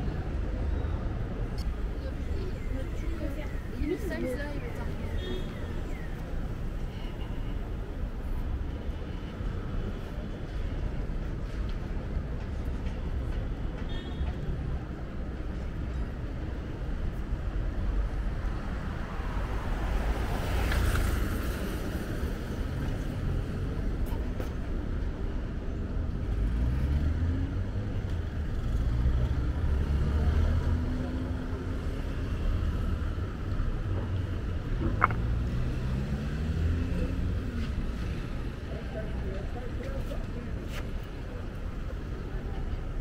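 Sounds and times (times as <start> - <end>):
city street traffic rumble: 0.0 - 43.0.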